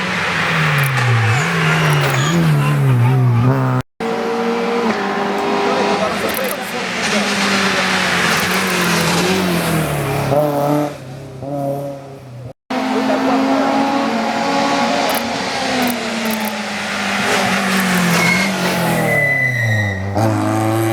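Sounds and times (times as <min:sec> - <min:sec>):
race car engines at full throttle: 0:00.0 - 0:20.9.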